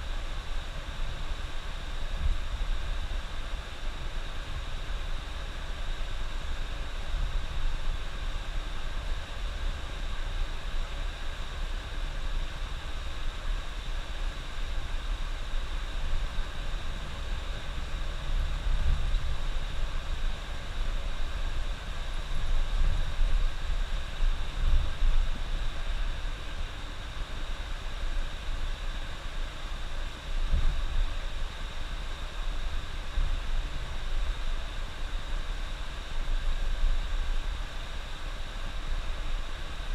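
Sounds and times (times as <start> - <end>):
constant hiss: 0.0 - 39.9.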